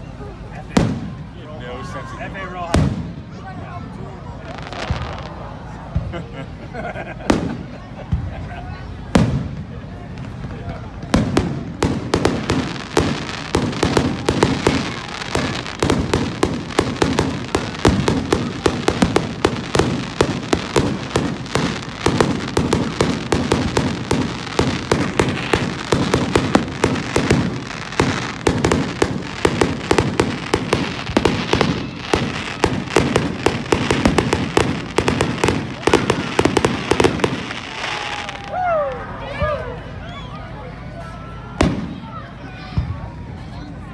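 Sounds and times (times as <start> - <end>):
fireworks crackling and popping: 0.0 - 6.6, 7.2 - 39.1, 41.6 - 42.1.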